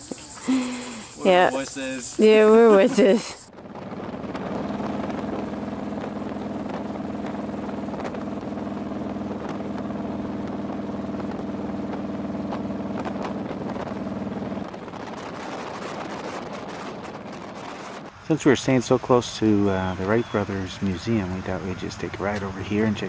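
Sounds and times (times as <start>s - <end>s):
motorcycle engine droning: 0.0s - 23.0s.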